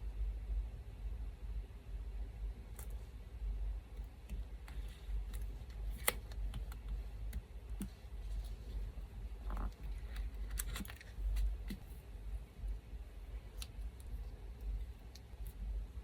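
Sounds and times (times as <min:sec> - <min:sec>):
electric fan humming: 0:01.3 - 0:16.0.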